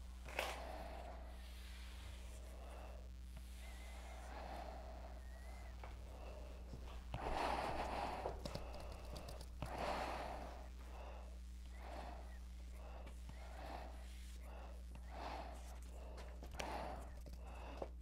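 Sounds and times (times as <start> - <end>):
person breathing: 0.0 - 18.0
steady low hum: 0.0 - 18.0.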